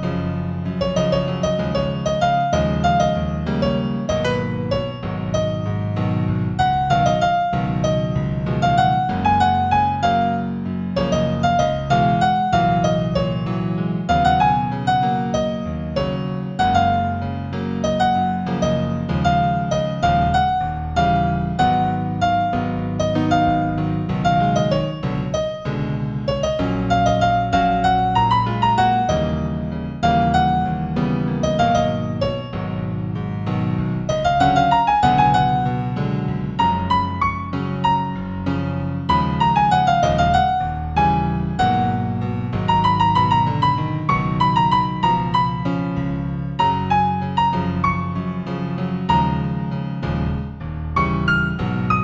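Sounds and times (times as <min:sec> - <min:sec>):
gentle piano music: 0:00.0 - 0:52.0.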